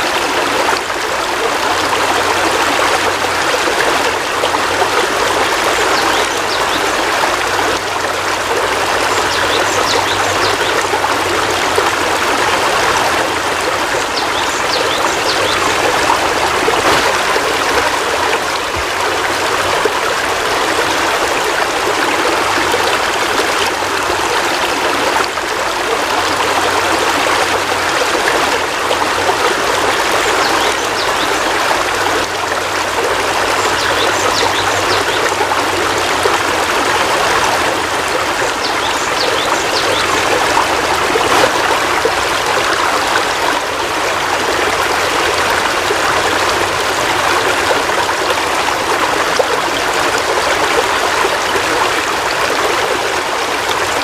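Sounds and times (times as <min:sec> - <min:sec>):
heavy rain falling: 0:00.0 - 0:39.1, 0:39.8 - 0:54.0.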